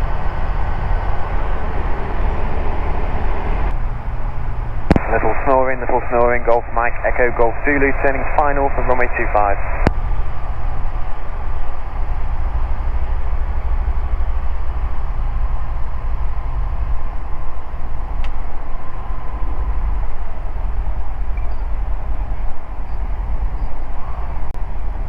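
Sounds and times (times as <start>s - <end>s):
light aircraft engine and propeller drone: 0.0s - 25.0s.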